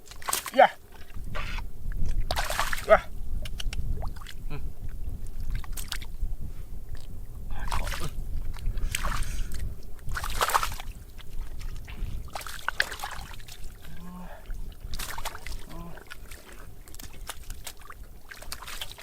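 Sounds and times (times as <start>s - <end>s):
water sloshing and splashing: 0.0s - 19.0s
steady low rumble: 0.8s - 18.6s.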